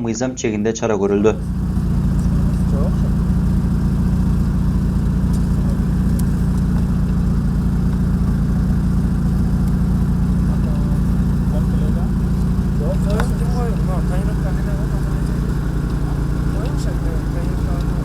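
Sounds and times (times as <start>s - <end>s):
car engine running: 1.1s - 18.0s.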